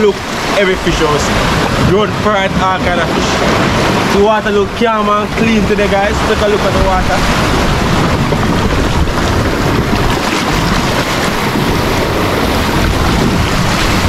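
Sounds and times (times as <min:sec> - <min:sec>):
surf breaking against rocks: 0:00.0 - 0:14.0
wind buffeting microphone: 0:00.0 - 0:14.0.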